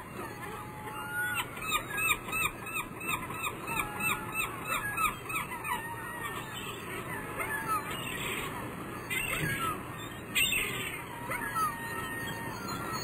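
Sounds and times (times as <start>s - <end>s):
bird squeaky calls: 0.9s - 13.0s.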